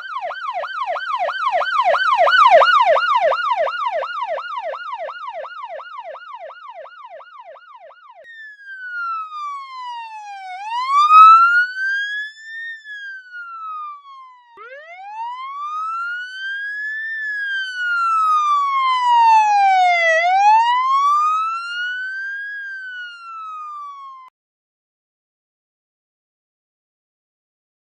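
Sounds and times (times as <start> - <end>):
electronic police siren: 0.0 - 24.3.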